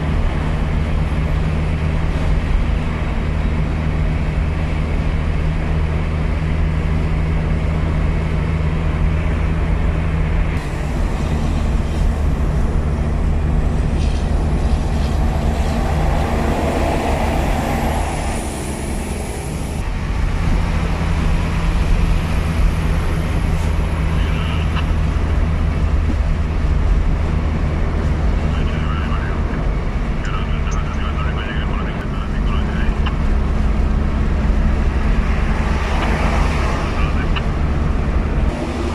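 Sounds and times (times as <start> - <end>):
road noise: 0.0 - 38.9
vehicle engine drone: 0.0 - 38.9.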